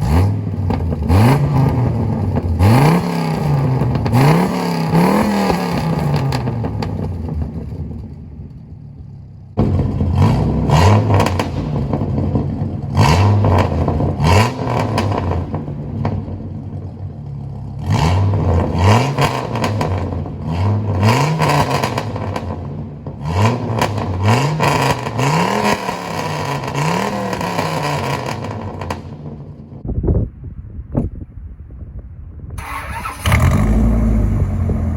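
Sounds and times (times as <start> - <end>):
engine revving in blips: 0.0 - 7.6, 9.6 - 16.2, 17.8 - 29.4, 32.6 - 34.9
exhaust crackles and pops: 0.0 - 29.8.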